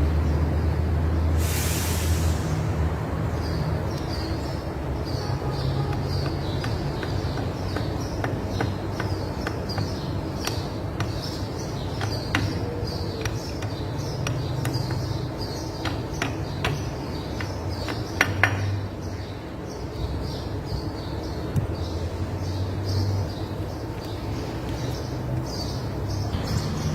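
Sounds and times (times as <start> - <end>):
small birds chirping: 2.2 - 26.9.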